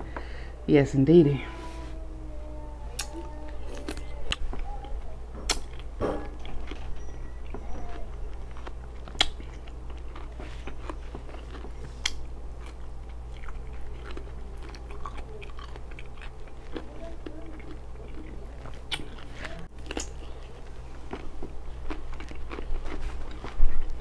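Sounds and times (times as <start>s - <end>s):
steady low hum: 0.0s - 24.0s
chewing raw cucumber: 3.0s - 24.0s.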